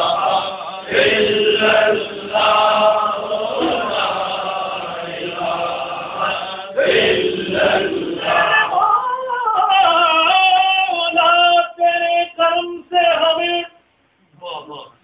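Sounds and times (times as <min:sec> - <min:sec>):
man singing unaccompanied: 0:00.0 - 0:13.8.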